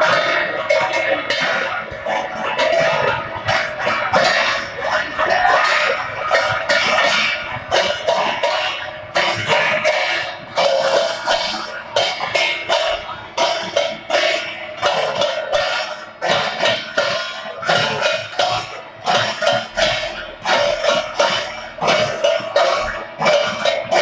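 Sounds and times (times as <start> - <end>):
drums beating: 0.0 - 24.0.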